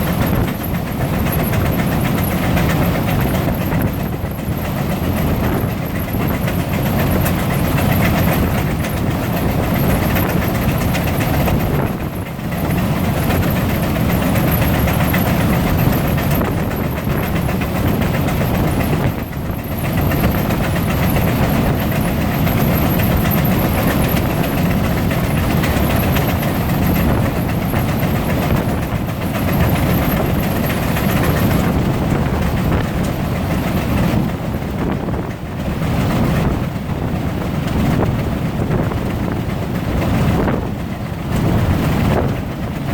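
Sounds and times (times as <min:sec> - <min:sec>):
steam traction engines working: 0:00.0 - 0:42.9.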